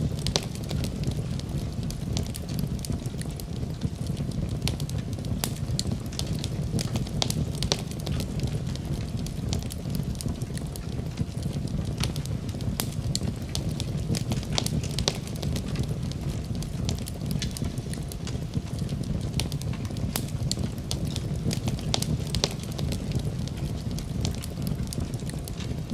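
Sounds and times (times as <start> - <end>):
burning wood crackling and popping: 0.0 - 25.9
low rumble of flames: 0.0 - 25.9.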